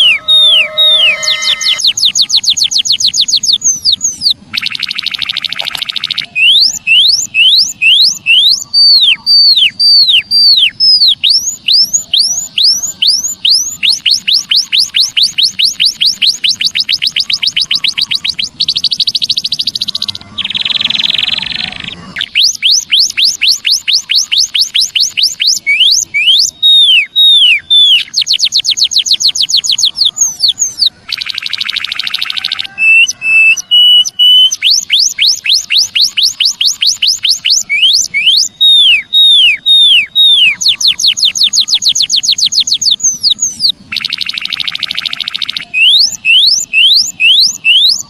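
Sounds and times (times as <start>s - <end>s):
buzzy rasping bird call: 0.0s - 48.0s
high thin bird chirps: 0.0s - 48.0s.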